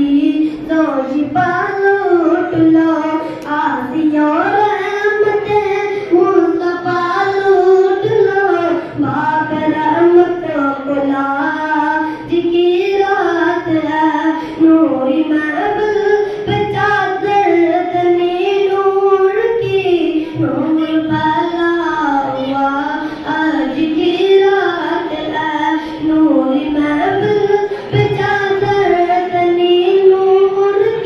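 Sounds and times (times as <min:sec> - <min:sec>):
boy singing into a microphone: 0:00.0 - 0:31.0.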